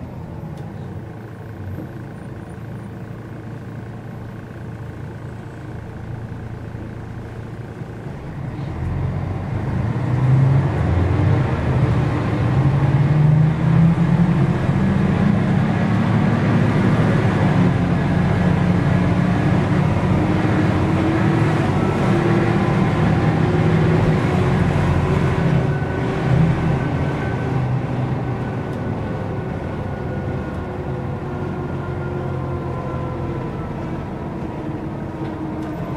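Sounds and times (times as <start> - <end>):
bus diesel engine running: 0.0 - 35.9.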